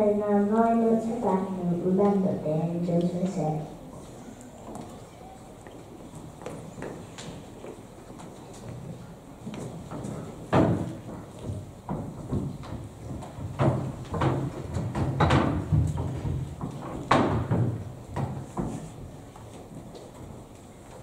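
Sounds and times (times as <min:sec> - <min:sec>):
footsteps on hollow stage: 0:03.2 - 0:21.0.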